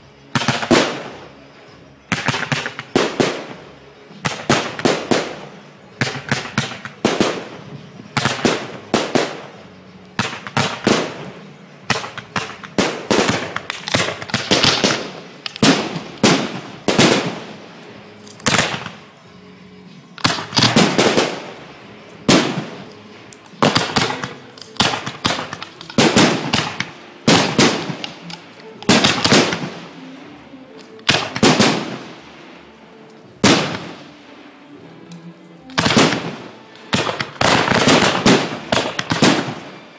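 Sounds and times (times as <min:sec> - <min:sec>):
fireworks bangs and crackles: 0:00.0 - 0:19.2, 0:19.9 - 0:32.7, 0:33.3 - 0:34.8, 0:35.7 - 0:39.9.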